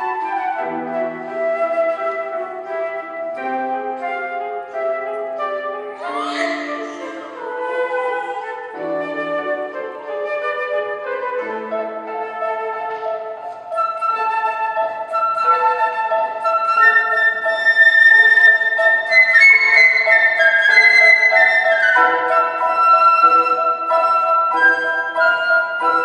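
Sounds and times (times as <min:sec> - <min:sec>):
flute melody: 0:00.0 - 0:26.0
grand piano accompaniment: 0:00.0 - 0:26.0.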